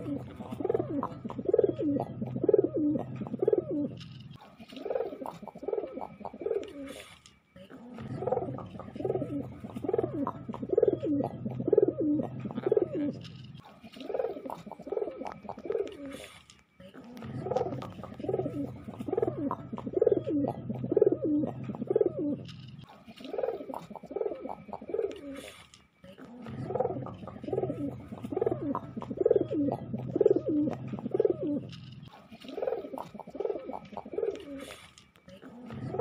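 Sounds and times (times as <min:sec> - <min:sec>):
pigeon cooing: 0:00.0 - 0:36.0.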